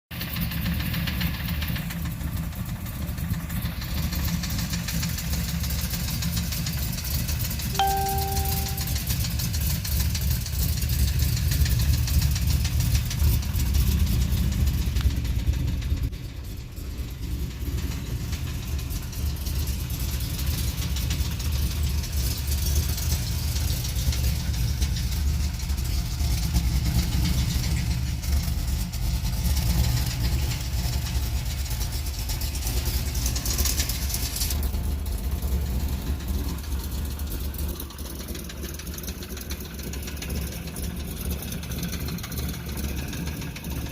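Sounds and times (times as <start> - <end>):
car engine running: 0.2 - 43.9.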